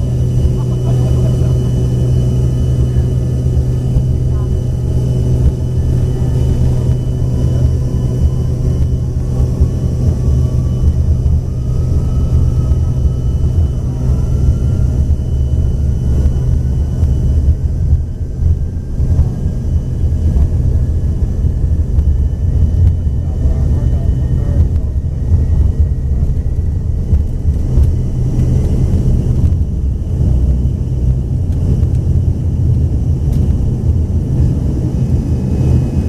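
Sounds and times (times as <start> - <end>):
aircraft cabin engine rumble: 0.0 - 36.0
faint rising engine whine: 0.0 - 36.0.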